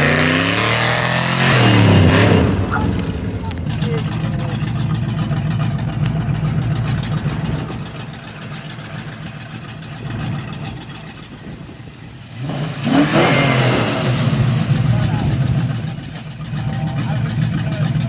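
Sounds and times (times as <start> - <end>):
car engine revving and accelerating: 0.0 - 18.0.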